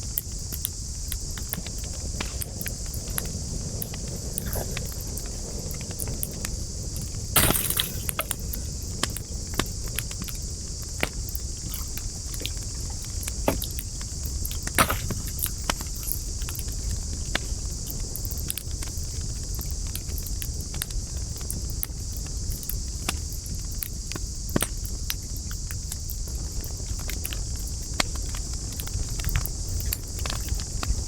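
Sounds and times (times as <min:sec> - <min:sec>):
wood campfire crackling: 0:00.0 - 0:31.0.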